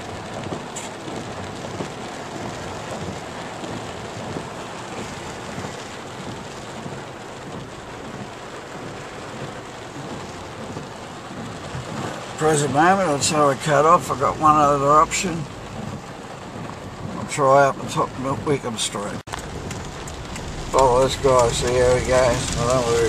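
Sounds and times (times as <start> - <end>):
heavy rain on car roof: 0.0 - 23.0.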